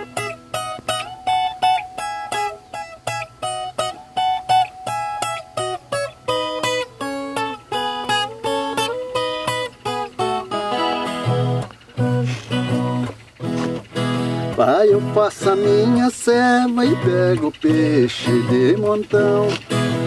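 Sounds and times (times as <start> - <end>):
plucked and strummed guitar melody: 0.0 - 20.0.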